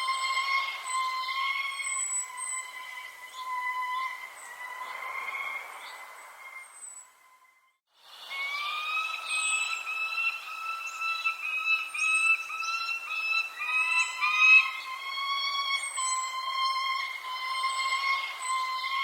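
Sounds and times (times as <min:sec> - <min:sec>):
birds whistling: 0:00.0 - 0:07.2, 0:08.1 - 0:19.0
high falling bird chirps: 0:00.0 - 0:07.5, 0:08.1 - 0:19.0.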